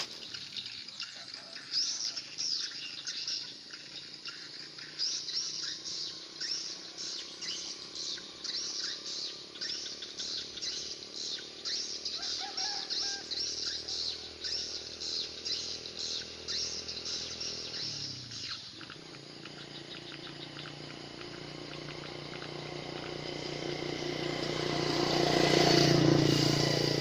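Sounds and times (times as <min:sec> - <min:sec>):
bird chirping: 0:00.0 - 0:25.8.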